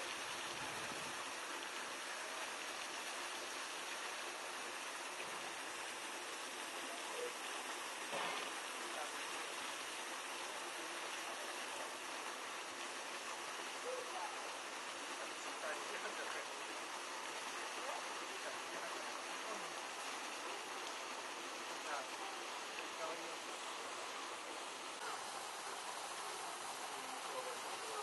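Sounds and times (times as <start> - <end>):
water spraying from hose: 0.0 - 28.0.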